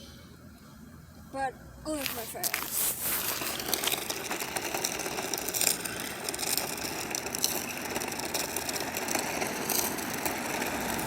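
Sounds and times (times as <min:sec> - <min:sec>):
rc car motor whirring: 0:01.9 - 0:11.0
short clicks and rattles: 0:02.0 - 0:11.0.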